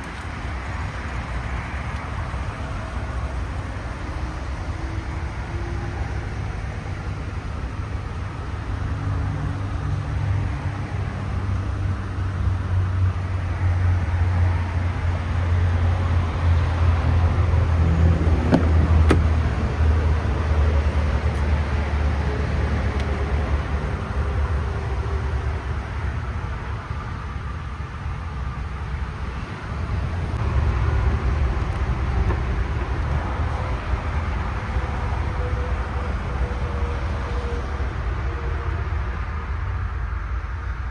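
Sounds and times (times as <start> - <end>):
vehicle engine running: 0.0 - 39.4.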